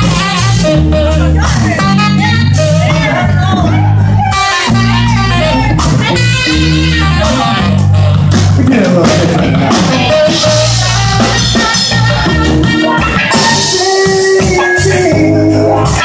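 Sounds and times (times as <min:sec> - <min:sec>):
bass notes: 0:00.0 - 0:16.0
drum kit: 0:00.0 - 0:16.0
electric guitar: 0:00.0 - 0:16.0.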